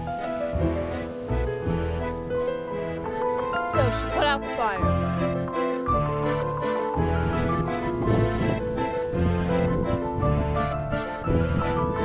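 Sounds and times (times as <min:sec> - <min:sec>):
melodic instrumental music: 0:00.0 - 0:12.0.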